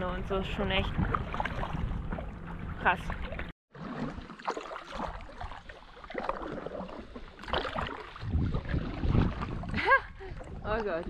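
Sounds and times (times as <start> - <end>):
paddle strokes splashing water: 0.7 - 11.0.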